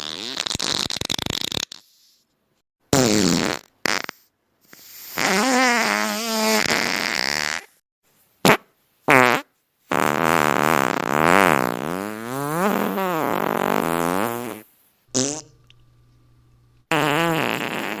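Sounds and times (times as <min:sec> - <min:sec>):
fart sounds: 0:00.0 - 0:02.0, 0:02.9 - 0:07.8, 0:08.4 - 0:15.7, 0:16.9 - 0:18.0.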